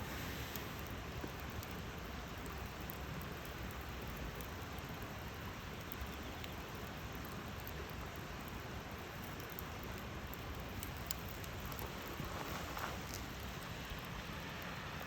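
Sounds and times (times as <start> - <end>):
campfire hissing: 0.0 - 15.0
faint fire crackles: 0.0 - 15.0.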